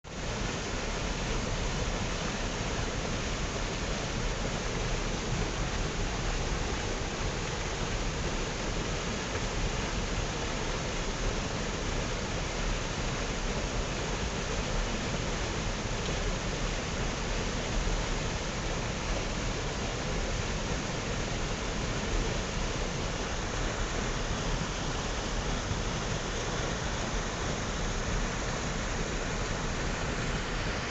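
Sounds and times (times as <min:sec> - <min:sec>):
rushing water: 0:00.1 - 0:30.9.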